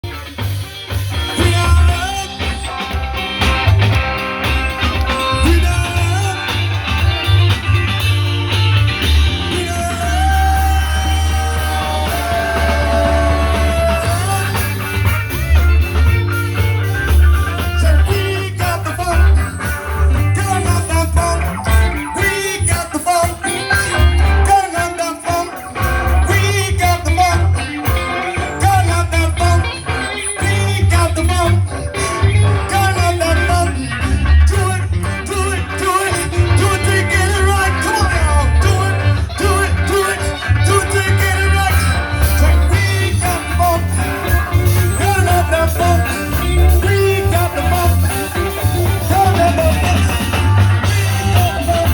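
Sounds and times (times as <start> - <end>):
rock song with singing: 0.0 - 51.9.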